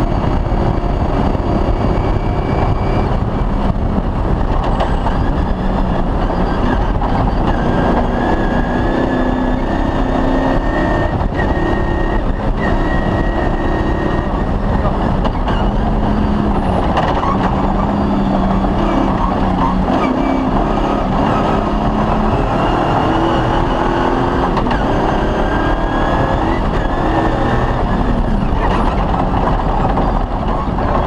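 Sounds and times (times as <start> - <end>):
rally car engine running: 0.0 - 31.0
tyre and chassis rumble: 0.0 - 31.0.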